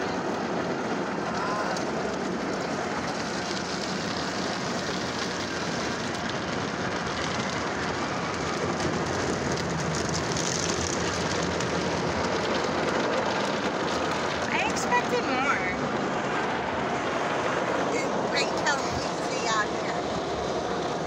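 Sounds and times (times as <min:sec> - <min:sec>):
water spray on car: 0:00.0 - 0:21.0.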